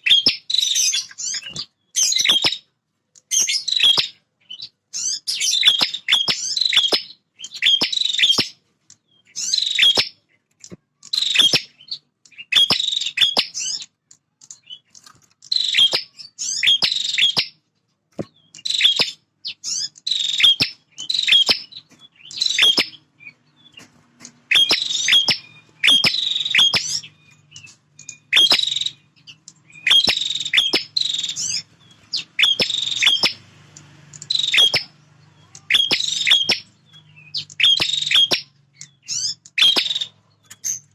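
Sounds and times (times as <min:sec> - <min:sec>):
bird chirping rapidly: 0:00.0 - 0:17.6, 0:18.2 - 0:40.9.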